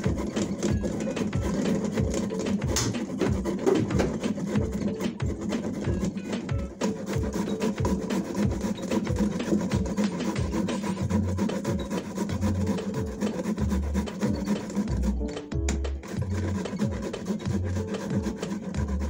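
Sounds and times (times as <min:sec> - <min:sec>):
hand grater rasping: 0:00.0 - 0:19.0.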